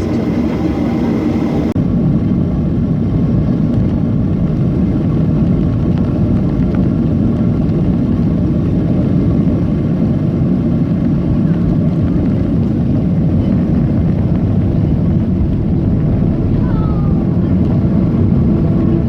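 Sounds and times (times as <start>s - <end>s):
aircraft cabin engine rumble: 0.0s - 19.0s.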